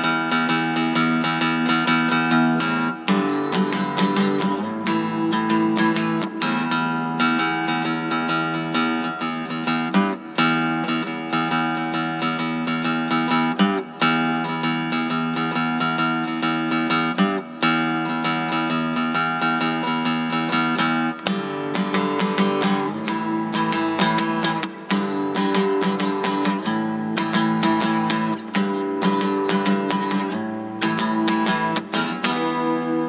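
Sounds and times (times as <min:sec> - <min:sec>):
strummed guitar music: 0:00.0 - 0:33.0.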